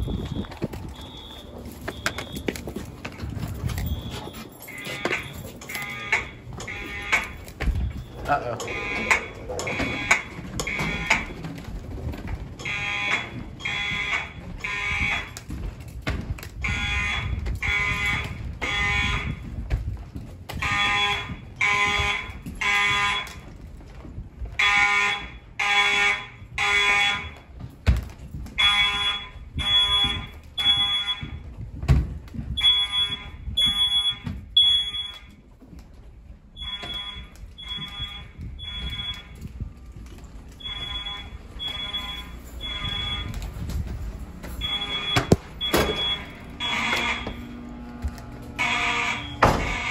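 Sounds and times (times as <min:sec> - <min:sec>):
fire alarm horn blasts: 0:00.0 - 0:11.7, 0:12.6 - 0:15.5, 0:16.6 - 0:19.6, 0:20.5 - 0:23.6, 0:24.6 - 0:27.5, 0:28.6 - 0:31.5, 0:32.6 - 0:35.4, 0:36.6 - 0:39.5, 0:40.5 - 0:43.8, 0:44.4 - 0:49.9.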